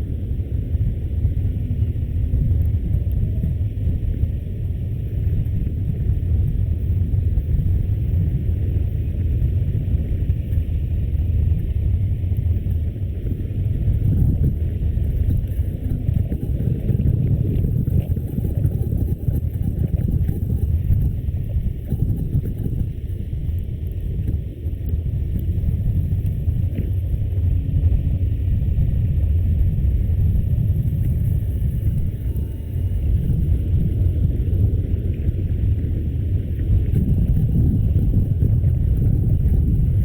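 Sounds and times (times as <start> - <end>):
bicycle road noise: 0.0 - 40.0
wind buffeting microphone: 0.0 - 40.0.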